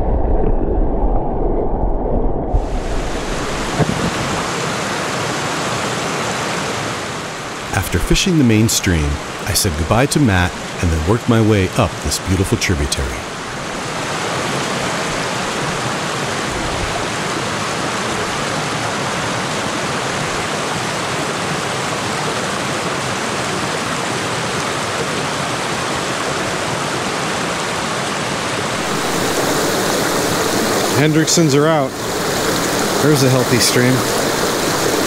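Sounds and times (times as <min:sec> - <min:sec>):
stream water flowing: 0:02.9 - 0:35.0.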